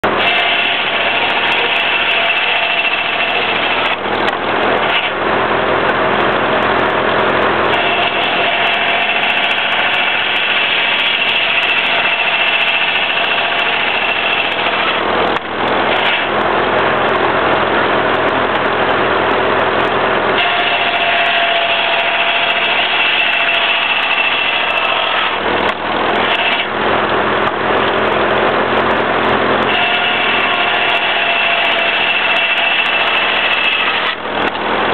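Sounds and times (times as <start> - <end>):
circular saw whine: 0.0 - 34.9
mill machinery running: 0.0 - 34.9.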